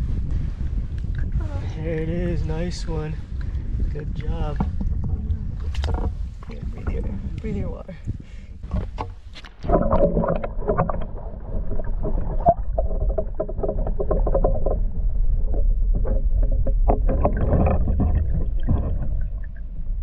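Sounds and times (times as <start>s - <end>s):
muffled underwater water sloshing: 0.0s - 20.0s
steady low rumble: 0.0s - 20.0s.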